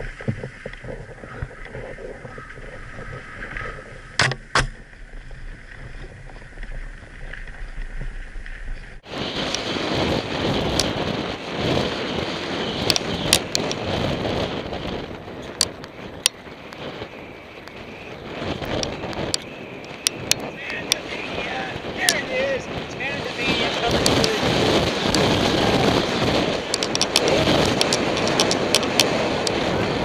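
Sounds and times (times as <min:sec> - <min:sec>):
bike tyres on dirt trail: 0:00.0 - 0:30.0
wind on microphone: 0:00.0 - 0:30.0.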